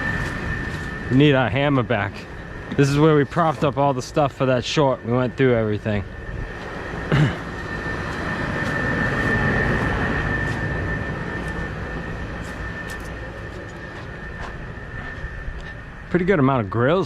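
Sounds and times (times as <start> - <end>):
steady high-pitched tone: 0.0 - 17.0.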